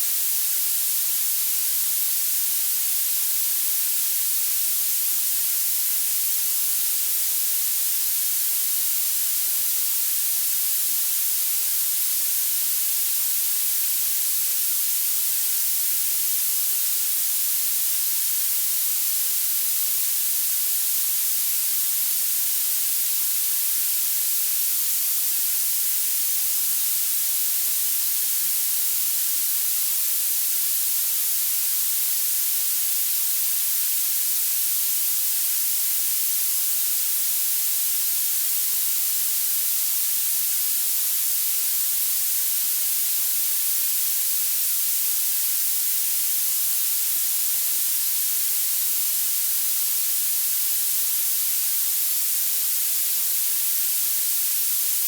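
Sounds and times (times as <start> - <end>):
high-pitched steady hiss: 0.0 - 55.0.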